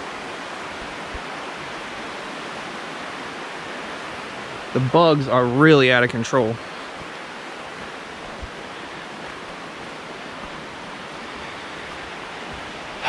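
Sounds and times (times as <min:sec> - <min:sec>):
small stream rushing: 0:00.0 - 0:13.0.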